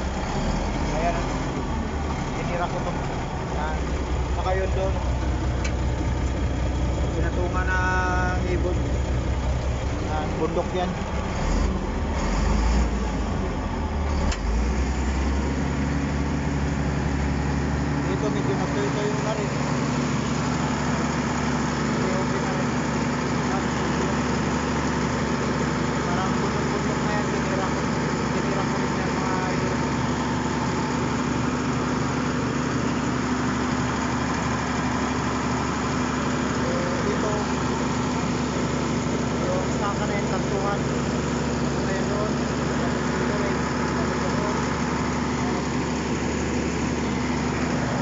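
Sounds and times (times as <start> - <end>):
bulldozer diesel engine: 0.0 - 48.0.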